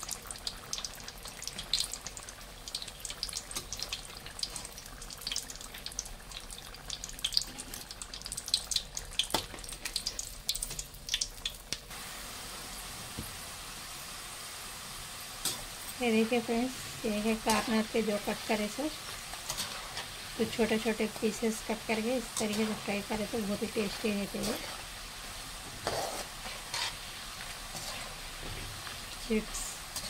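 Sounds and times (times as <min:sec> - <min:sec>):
food deep-frying in oil: 0:00.0 - 0:30.0.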